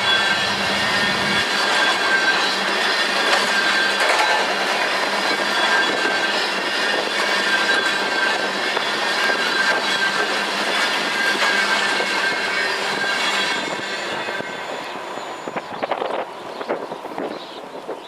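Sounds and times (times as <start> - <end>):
thin steady wheel squeal: 0.0 - 18.0
train wheels rumbling on rails: 0.0 - 18.0.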